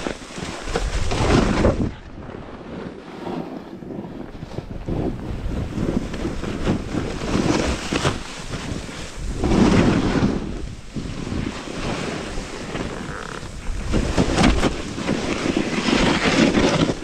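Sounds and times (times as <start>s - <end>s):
snowboard scraping across snow: 0.0s - 17.0s
wind rumbling on microphone: 0.0s - 17.0s.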